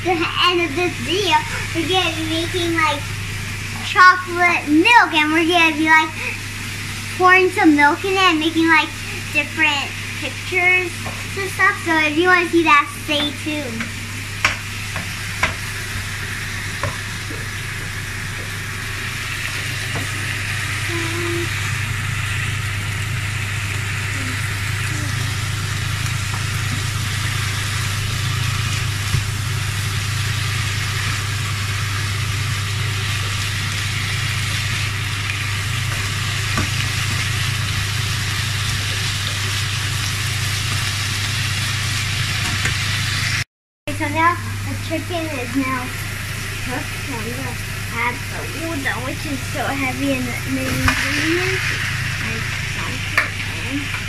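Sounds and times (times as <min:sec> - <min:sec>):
steady low hum: 0:00.0 - 0:54.0
food sizzling in oil: 0:00.1 - 0:43.4, 0:44.0 - 0:54.0.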